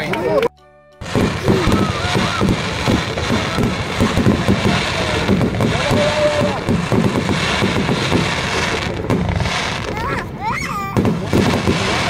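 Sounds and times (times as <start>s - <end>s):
fireworks booming and crackling: 1.0s - 12.0s.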